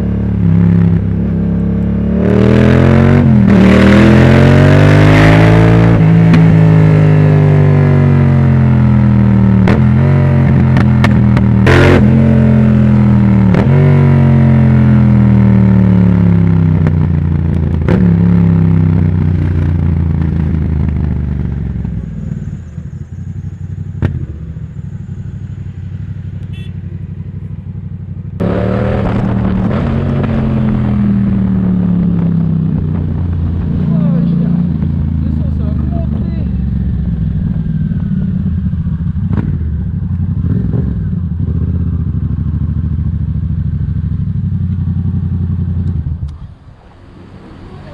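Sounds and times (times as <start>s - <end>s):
motorcycle engine downshifting: 2.2s - 47.9s.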